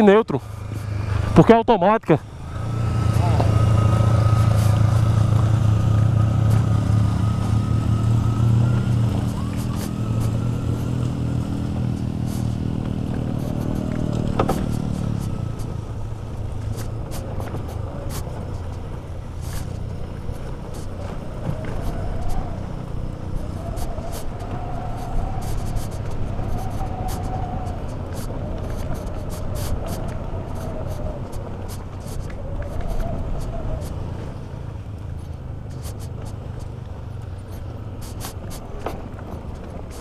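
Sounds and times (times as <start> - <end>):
motorcycle engine hum: 0.0 - 40.0
wind and road noise: 0.0 - 40.0.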